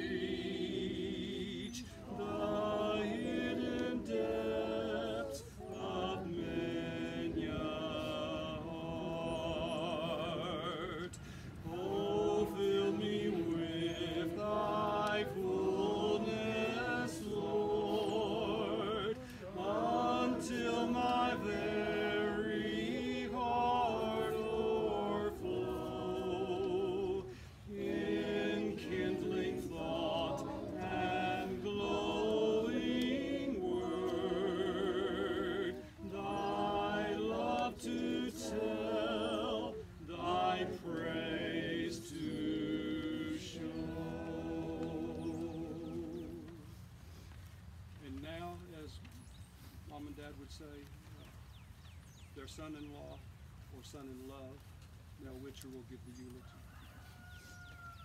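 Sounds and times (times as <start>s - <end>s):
congregation singing a hymn: 0.0s - 47.2s.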